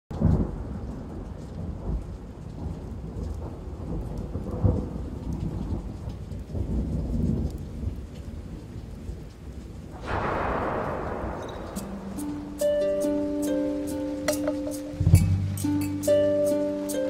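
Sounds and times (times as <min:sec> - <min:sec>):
rain: 0:00.1 - 0:17.0
rolling thunder: 0:00.2 - 0:15.2.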